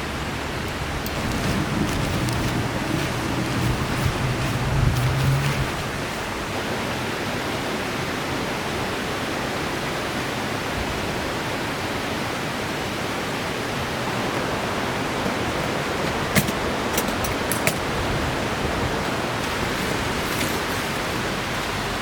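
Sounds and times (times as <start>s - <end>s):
mountain river rushing: 0.0s - 22.0s.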